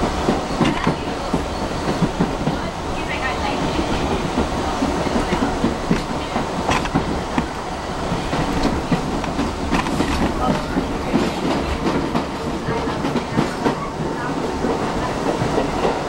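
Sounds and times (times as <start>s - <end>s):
subway train rumbling: 0.0s - 16.0s
wheels clacking on track: 0.0s - 16.0s.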